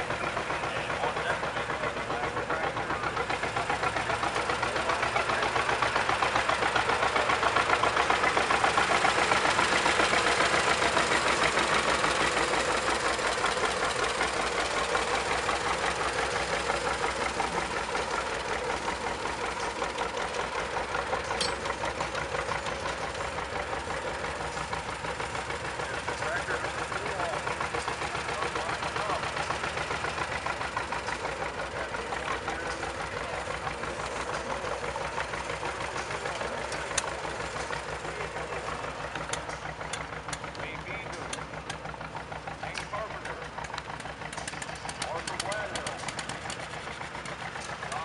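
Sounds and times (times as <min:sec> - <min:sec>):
tractor engines running: 0:00.0 - 0:48.0.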